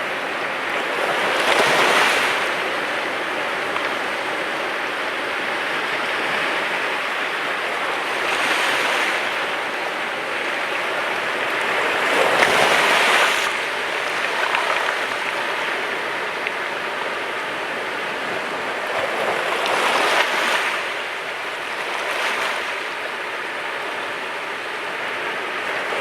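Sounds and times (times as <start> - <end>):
sea waves washing ashore: 0.0 - 26.0.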